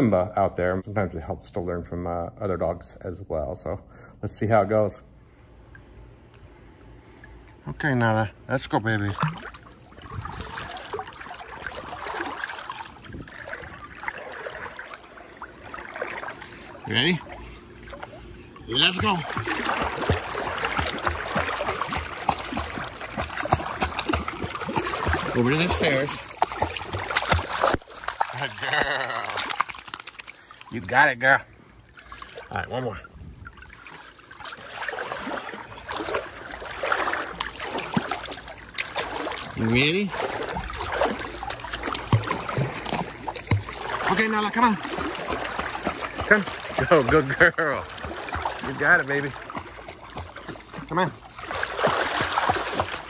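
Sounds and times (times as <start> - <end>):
pool water splashing: 4.3 - 53.0.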